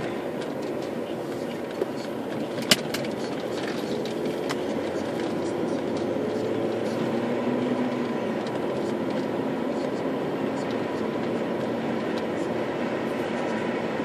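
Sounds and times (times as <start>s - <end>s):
diesel engine in car cabin: 0.0s - 14.0s
tyre road noise: 0.0s - 14.0s.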